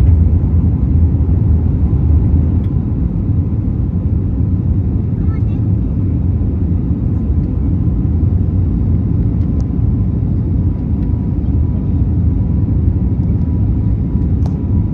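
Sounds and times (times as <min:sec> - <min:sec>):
jet engines and airflow rumble: 0:00.0 - 0:14.9.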